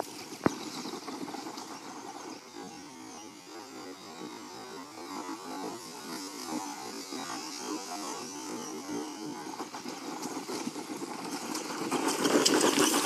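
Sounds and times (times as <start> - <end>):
toy car motor humming on dirt: 0.0 - 13.0.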